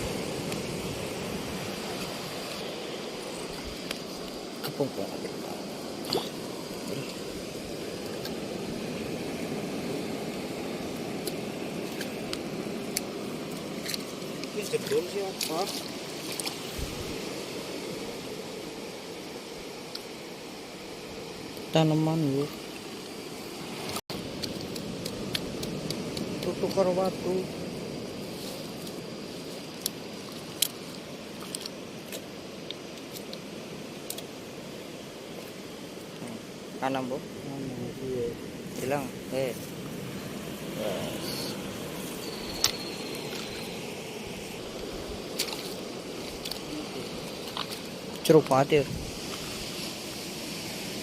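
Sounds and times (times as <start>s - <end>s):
ocean surf on rocky shore: 0.0s - 51.0s.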